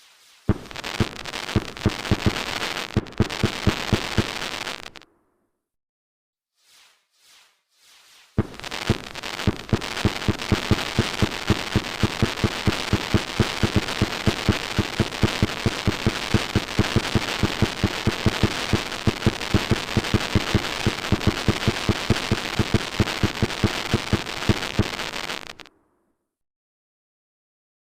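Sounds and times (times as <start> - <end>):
fireworks bangs: 0.0 - 5.1, 8.4 - 25.7
fireworks crackling: 0.0 - 5.1, 6.7 - 25.7.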